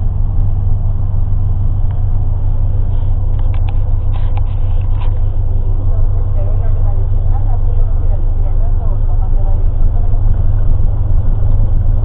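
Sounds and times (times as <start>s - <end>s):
motor vehicle droning: 0.0s - 12.0s.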